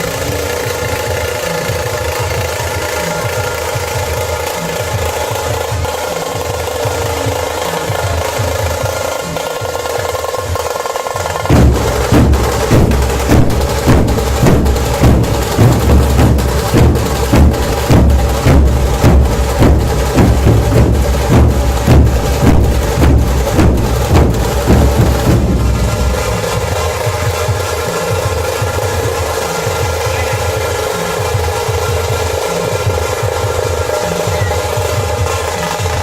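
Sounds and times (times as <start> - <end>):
heavy drum beats: 0.0 - 36.0
rapid drum strokes: 0.0 - 36.0.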